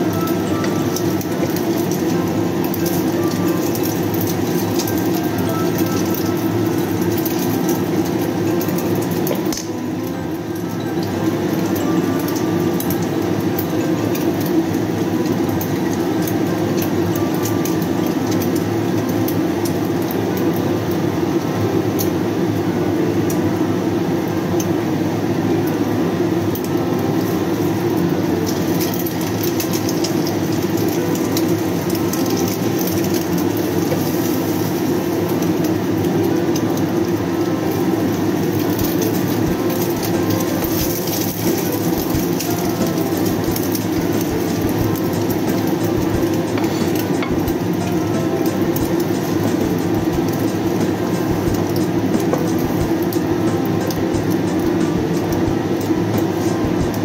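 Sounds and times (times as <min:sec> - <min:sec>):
exhaust fan running: 0:00.0 - 0:57.0.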